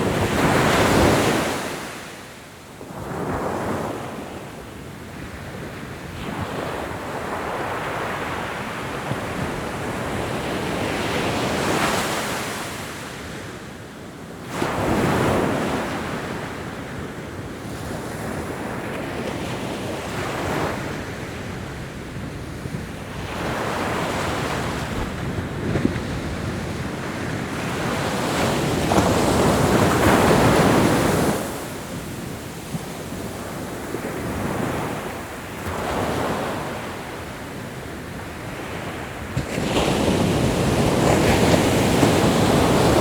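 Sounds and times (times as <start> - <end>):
ocean waves breaking on shore: 0.0 - 13.8, 17.5 - 43.0.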